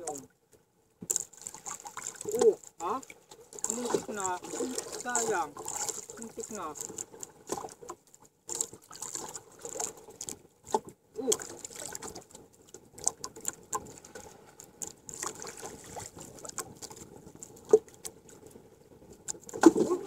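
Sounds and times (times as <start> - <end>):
water lapping against boat hull: 0.0 - 20.0.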